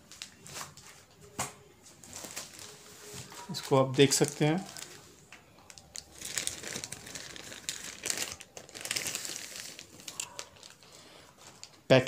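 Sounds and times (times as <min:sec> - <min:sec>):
plastic sleeve crinkling: 0:02.0 - 0:12.0.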